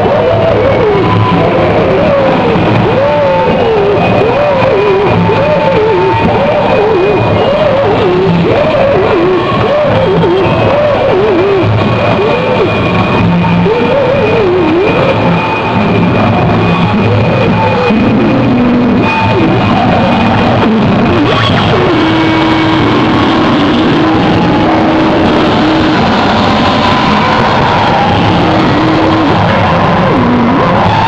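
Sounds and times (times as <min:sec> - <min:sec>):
distorted noise music: 0:00.0 - 0:31.0
high whine: 0:00.0 - 0:31.0
low drone: 0:00.0 - 0:31.0.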